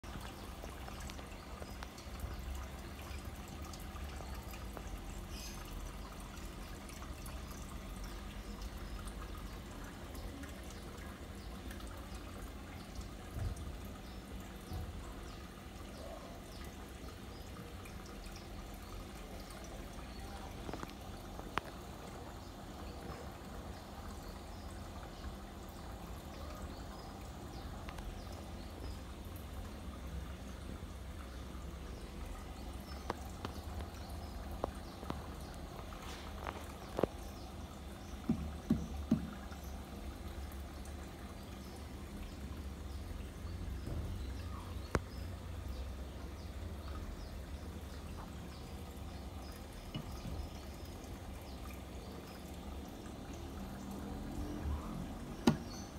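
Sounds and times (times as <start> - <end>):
aquarium water bubbling: 0.0 - 55.9.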